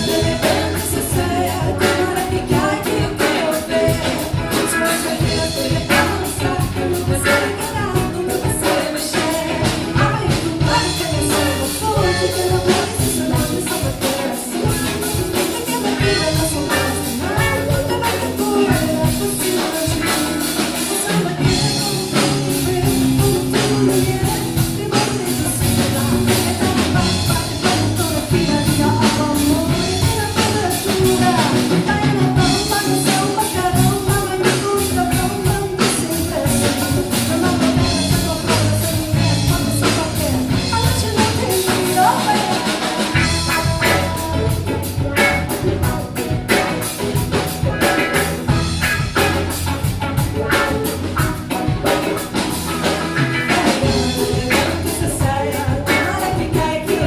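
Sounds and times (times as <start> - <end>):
driving samba percussion: 0.0 - 57.0
voices singing: 0.0 - 57.0.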